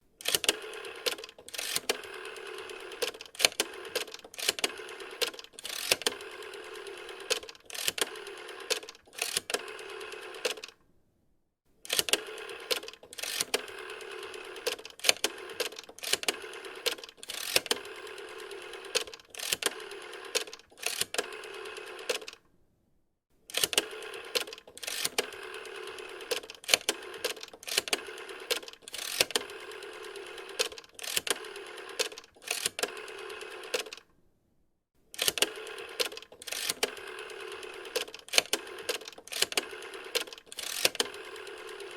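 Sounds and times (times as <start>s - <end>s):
rotary telephone dial clicking: 0.2s - 10.8s, 11.9s - 22.4s, 23.5s - 34.0s, 35.2s - 41.9s.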